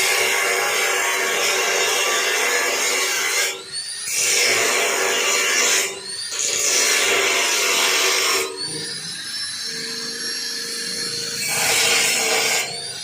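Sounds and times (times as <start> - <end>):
angle grinder cutting metal: 0.0 - 13.0.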